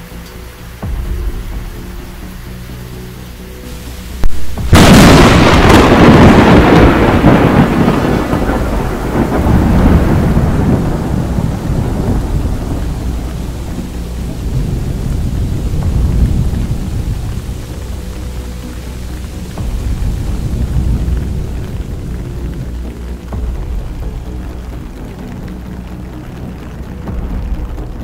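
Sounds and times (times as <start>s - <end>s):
heavy rain: 0.0s - 28.0s
thunder rumble: 0.7s - 28.0s.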